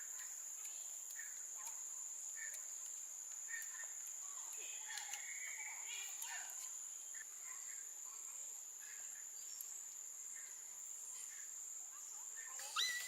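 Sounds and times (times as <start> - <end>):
faint insect chirps: 0.0 - 13.0.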